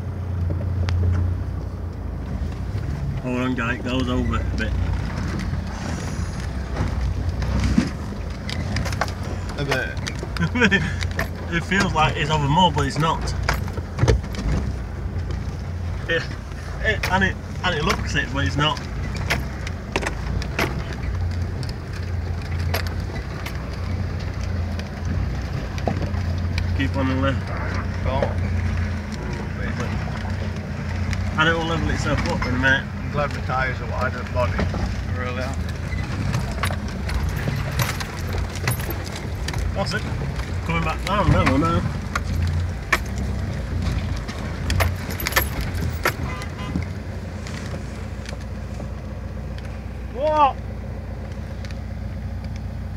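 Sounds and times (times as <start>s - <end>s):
engine running at low revs: 0.0s - 52.9s
vehicle knocks and clicks: 0.4s - 5.7s, 6.3s - 49.8s.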